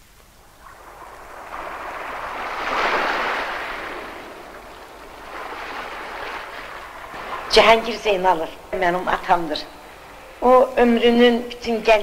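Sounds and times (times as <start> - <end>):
sea waves washing ashore: 0.4 - 10.4.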